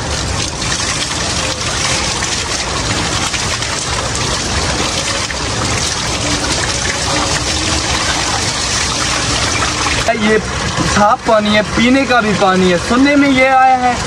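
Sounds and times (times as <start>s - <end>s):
water pouring from tap and splashing: 0.0s - 14.0s.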